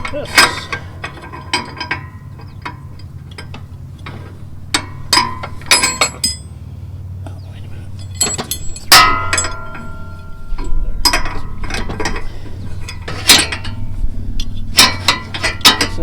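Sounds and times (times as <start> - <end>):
metal mower parts clanking: 0.0 - 16.0.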